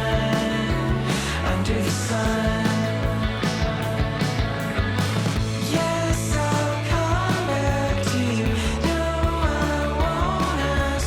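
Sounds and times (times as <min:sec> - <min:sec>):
rock music with singing: 0:00.0 - 0:11.0.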